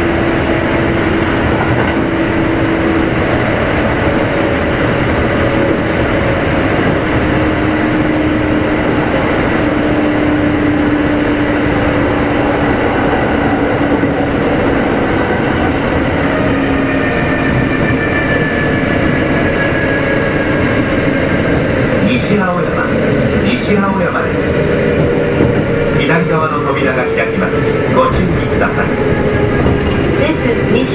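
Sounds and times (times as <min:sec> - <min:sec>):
train motor and gear whine: 0:00.0 - 0:30.9
train wheel and rail noise: 0:00.0 - 0:30.9.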